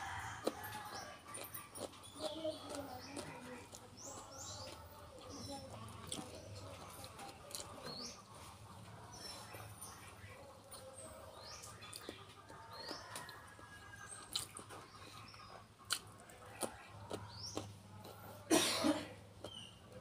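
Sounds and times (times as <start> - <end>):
lettuce being handled and chewed: 0.0 - 18.5
small birds chirping: 0.0 - 18.6, 19.2 - 20.0.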